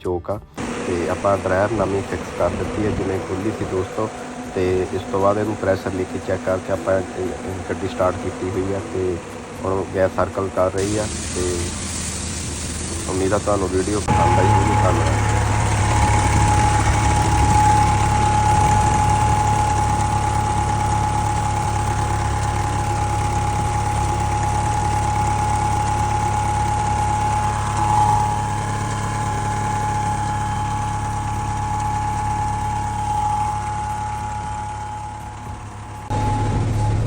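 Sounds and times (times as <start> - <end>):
air conditioning whine: 0.6 - 37.0
bus engine idling: 0.6 - 37.0.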